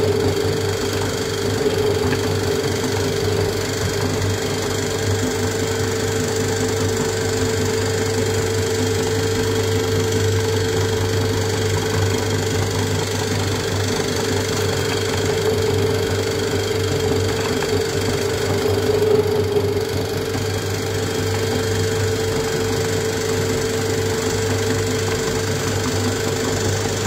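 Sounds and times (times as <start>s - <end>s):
meat grinder humming: 0.0s - 27.0s.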